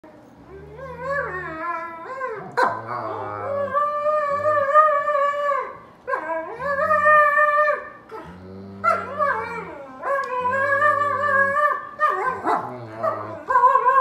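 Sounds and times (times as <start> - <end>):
dogs howl-like whining: 0.5 - 14.0.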